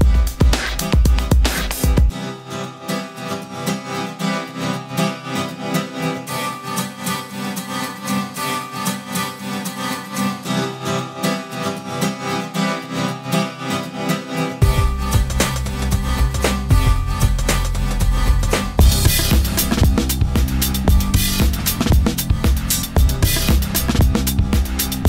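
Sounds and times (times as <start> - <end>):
plucked-string music with beat: 0.0 - 25.0.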